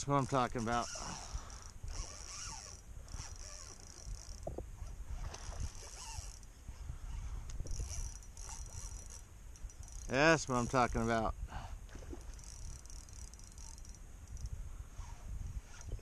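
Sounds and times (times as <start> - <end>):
fishing reel whirring: 0.2 - 4.5, 5.4 - 11.2, 12.2 - 16.0.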